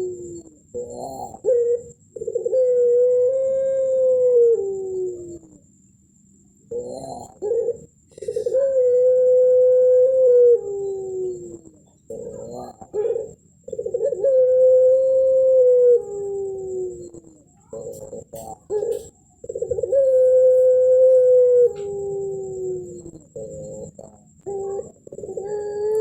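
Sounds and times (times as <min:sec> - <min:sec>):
dove cooing: 0:00.0 - 0:05.7, 0:06.6 - 0:26.0.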